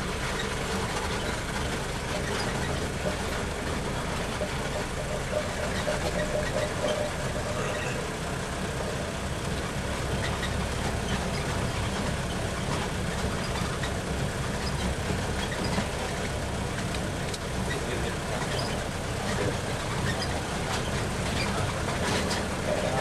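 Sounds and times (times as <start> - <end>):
road and body noise: 0.0 - 23.0
tram engine running: 0.0 - 23.0.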